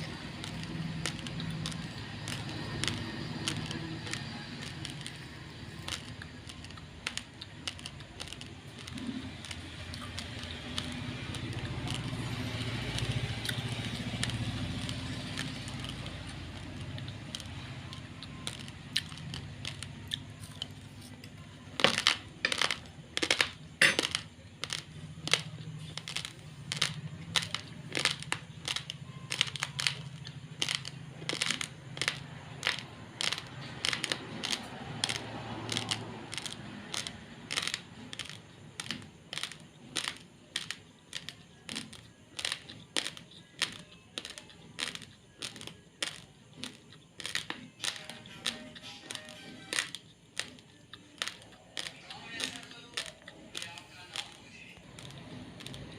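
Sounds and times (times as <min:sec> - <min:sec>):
chewing raw rice grains: 0:00.0 - 0:55.9.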